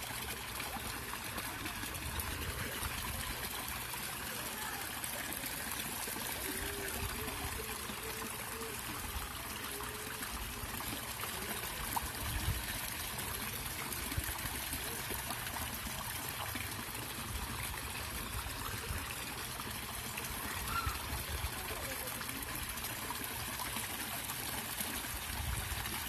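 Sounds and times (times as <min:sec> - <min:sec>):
water trickling into pond: 0:00.0 - 0:26.0.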